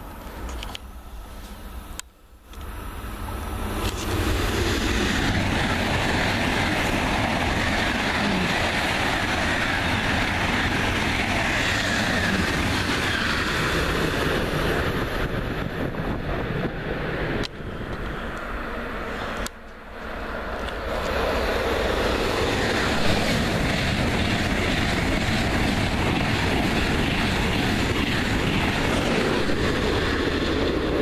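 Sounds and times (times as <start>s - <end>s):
high-speed train passing: 0.0s - 31.0s.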